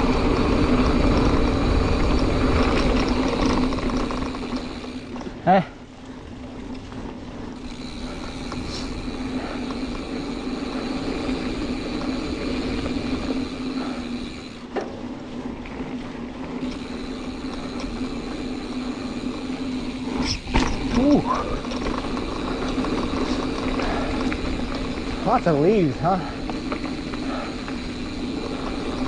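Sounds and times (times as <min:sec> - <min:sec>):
bike tyres rumbling on dirt: 0:00.0 - 0:29.0
freewheel hub buzzing: 0:00.0 - 0:29.0.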